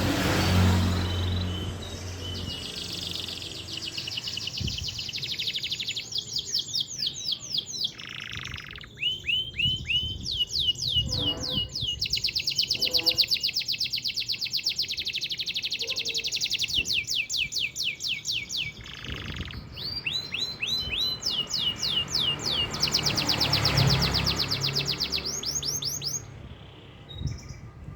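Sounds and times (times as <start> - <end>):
canary singing trills: 0.3 - 27.8.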